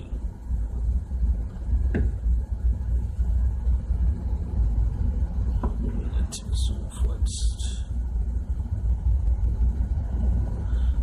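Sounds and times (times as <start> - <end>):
shipboard machinery rumble: 0.0 - 11.0.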